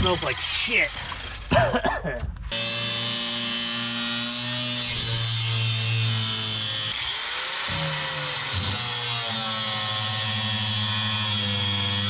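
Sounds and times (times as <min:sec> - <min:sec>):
angle grinder cutting metal: 0:00.0 - 0:01.5, 0:02.5 - 0:12.0.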